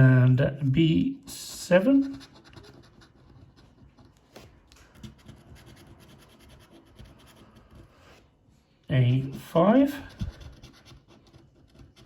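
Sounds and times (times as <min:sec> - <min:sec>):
scratch card being scratched: 0:01.4 - 0:08.3, 0:09.2 - 0:12.0.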